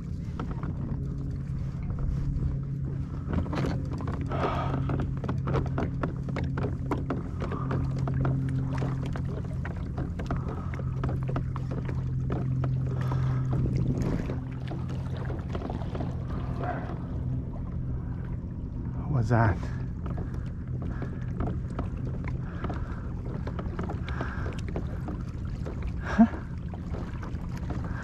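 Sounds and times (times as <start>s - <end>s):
kayak drive humming: 0.0s - 28.0s
water trickling along hull: 0.0s - 28.0s.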